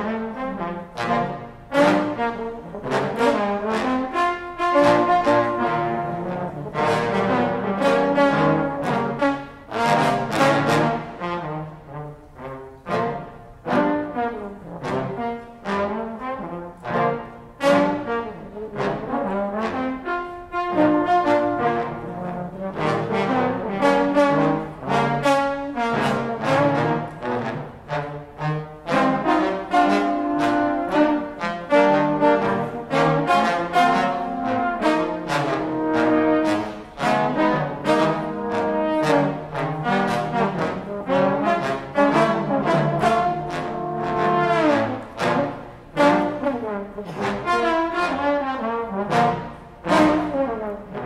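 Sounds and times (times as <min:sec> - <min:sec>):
trombone ensemble playing swing: 0:00.0 - 0:51.0.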